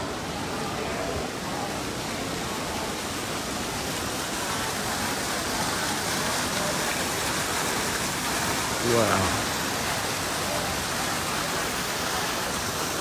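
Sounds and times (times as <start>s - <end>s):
fountain water splashing on metal: 0.0s - 13.0s
heavy rain falling: 0.0s - 13.0s.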